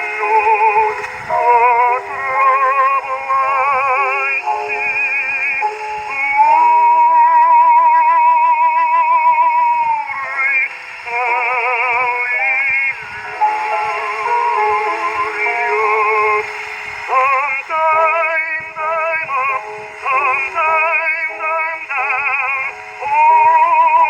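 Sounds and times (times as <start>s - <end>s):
man singing with vibrato: 0.0s - 24.0s.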